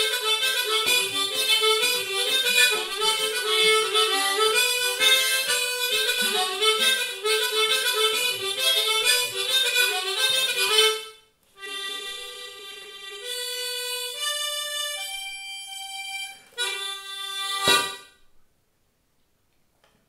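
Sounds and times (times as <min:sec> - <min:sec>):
button accordion playing: 0:00.0 - 0:18.2.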